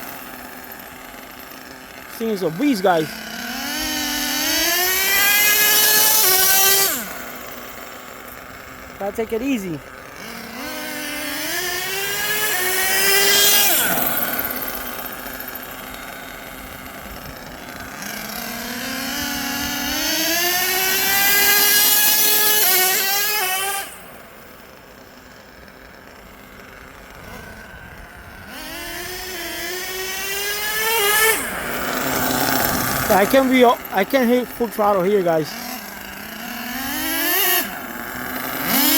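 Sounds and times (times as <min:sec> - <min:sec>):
nitro engines revving: 0:00.0 - 0:38.9.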